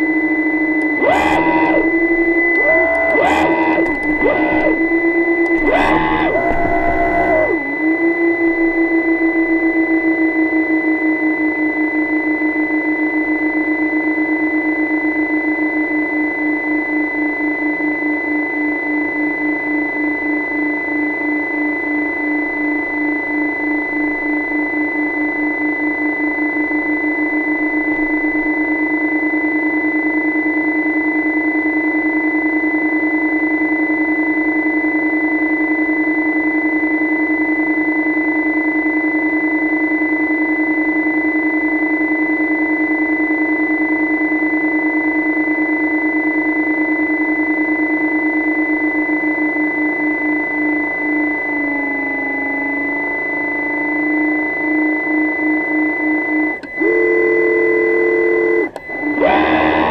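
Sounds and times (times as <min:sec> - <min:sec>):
high steady whine: 0:00.0 - 0:59.9
underwater mechanical hum: 0:00.0 - 0:59.9.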